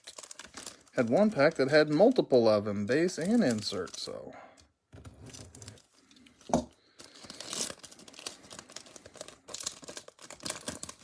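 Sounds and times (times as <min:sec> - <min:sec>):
foil wrapper crinkling and tearing: 0:00.0 - 0:04.3, 0:05.3 - 0:11.0.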